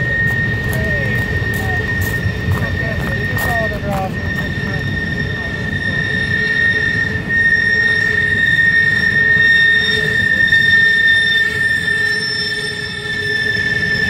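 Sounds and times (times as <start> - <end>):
low rumble of train cars: 0.0 - 14.0
train wheels squealing: 0.0 - 14.0.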